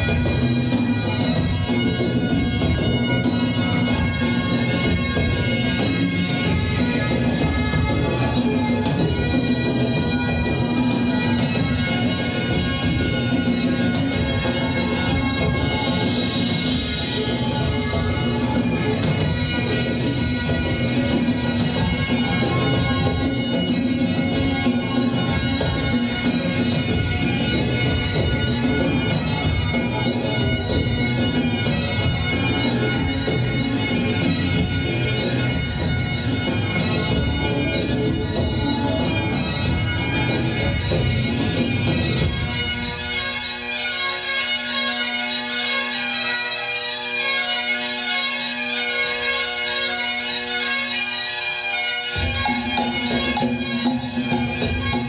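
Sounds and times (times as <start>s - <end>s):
bagpipe drone: 0.0s - 55.0s
pipe band playing bagpipes: 0.0s - 55.0s.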